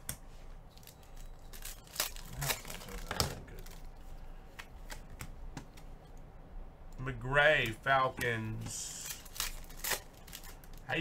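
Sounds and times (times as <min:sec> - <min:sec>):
trading cards crinkling and sliding: 0:00.2 - 0:06.0, 0:07.6 - 0:11.0.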